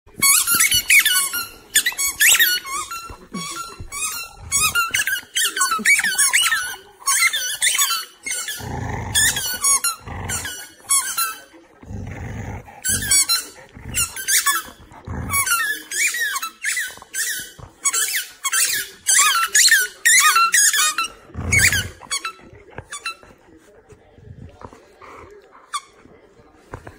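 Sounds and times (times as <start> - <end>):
squeaky toys squeaking: 0.2 - 11.4, 12.8 - 23.3.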